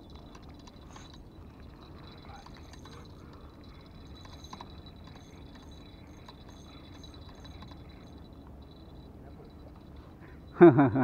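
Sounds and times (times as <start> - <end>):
fishing reel ticking: 0.0 - 10.6.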